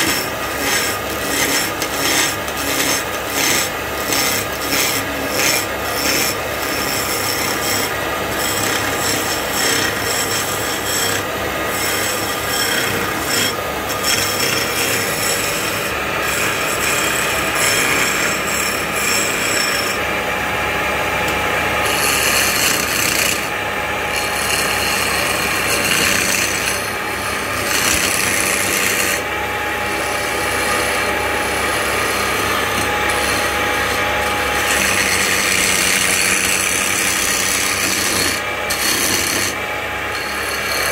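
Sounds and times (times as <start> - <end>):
chisel scraping spinning wood: 0.0 - 40.9
wood lathe running: 0.0 - 40.9.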